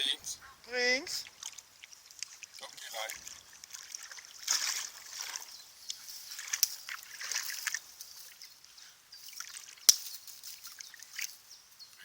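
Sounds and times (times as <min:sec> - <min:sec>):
water splashing and sloshing: 0:00.0 - 0:11.5.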